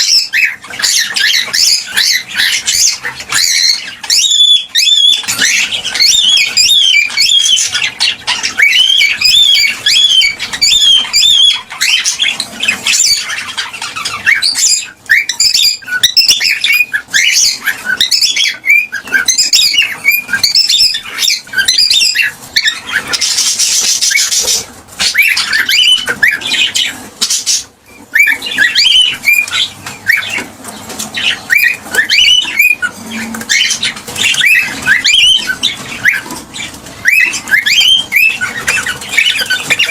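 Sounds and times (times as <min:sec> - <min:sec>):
cockatiels chirping and whistling: 0:00.0 - 0:39.9.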